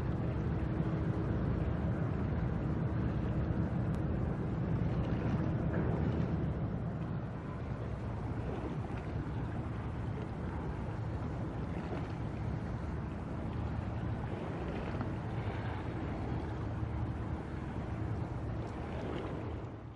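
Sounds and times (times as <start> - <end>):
ship engine drone: 0.0 - 19.9
wind and water hiss: 0.0 - 19.9.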